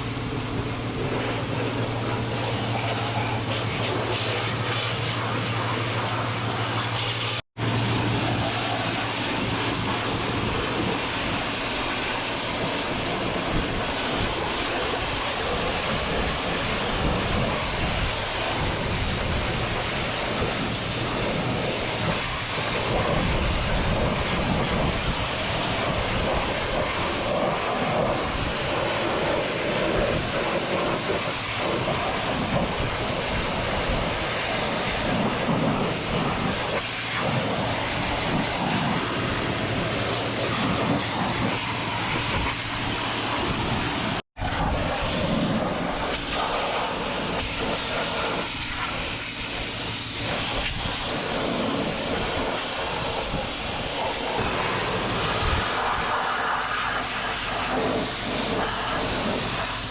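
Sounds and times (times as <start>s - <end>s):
pressure washer water jet hissing: 0.0s - 59.9s.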